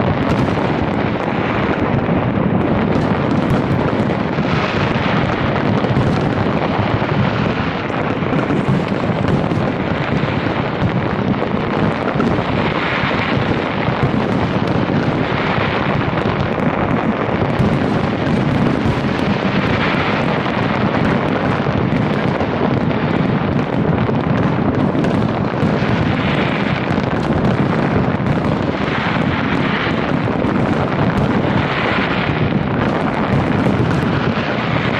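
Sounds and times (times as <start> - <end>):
fireworks barrage rumble: 0.0 - 34.9
sharp firework bangs: 0.0 - 34.9.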